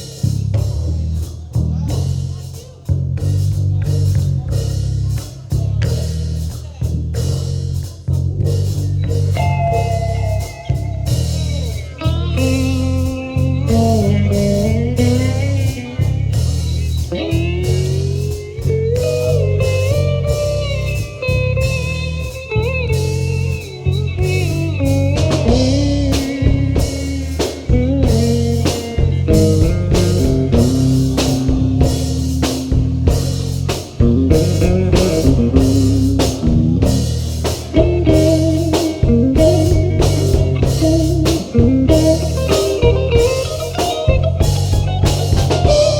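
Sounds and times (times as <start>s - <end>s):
bass and drums: 0.0s - 45.9s
electric guitar lead line: 9.0s - 45.9s.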